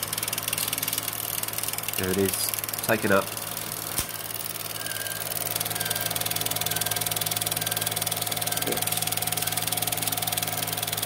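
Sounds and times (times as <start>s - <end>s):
projector motor hum: 0.0s - 11.0s.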